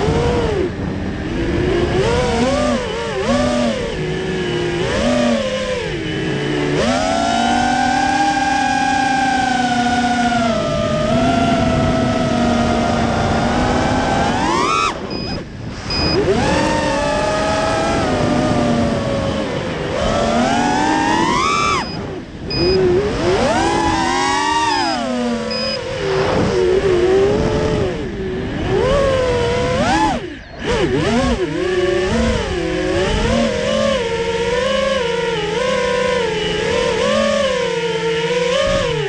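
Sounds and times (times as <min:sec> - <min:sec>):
quadcopter motors whining: 0:00.0 - 0:39.0.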